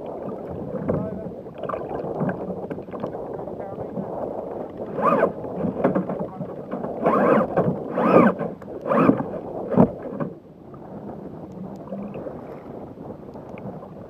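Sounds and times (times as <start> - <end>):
water splashing against kayak hull: 0.0 - 14.0
wind: 0.0 - 14.0.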